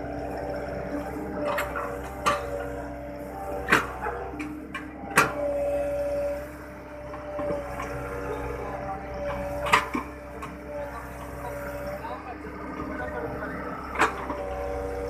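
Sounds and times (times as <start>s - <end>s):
diesel engine whining: 0.0s - 15.0s.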